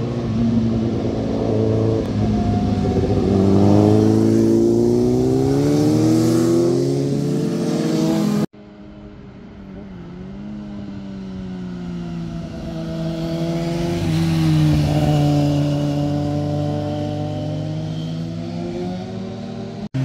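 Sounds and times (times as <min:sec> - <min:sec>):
motorcycle engine passing by: 0:00.0 - 0:20.0.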